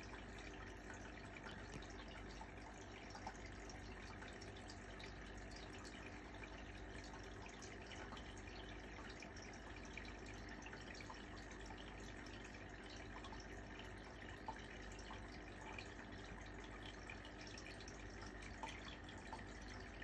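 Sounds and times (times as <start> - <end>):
water trickling with drips: 0.0 - 20.0.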